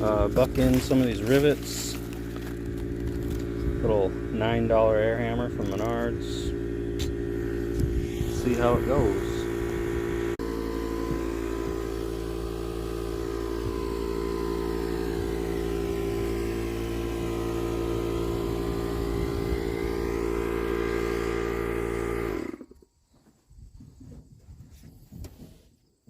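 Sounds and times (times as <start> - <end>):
machine humming: 0.0 - 22.7.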